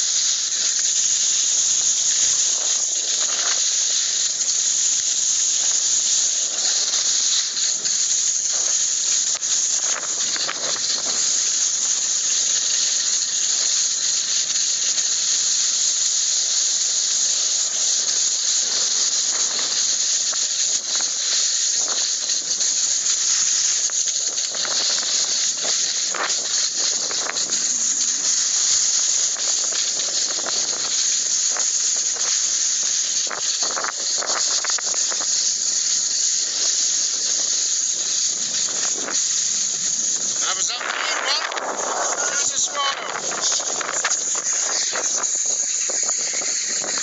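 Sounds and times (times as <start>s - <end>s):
high-pitched hiss: 0.0s - 47.0s.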